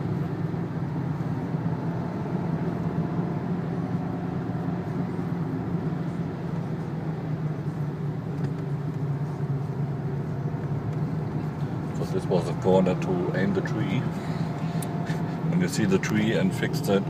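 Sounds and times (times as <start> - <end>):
car engine drone: 0.0 - 17.0
tyre and road noise: 0.0 - 17.0.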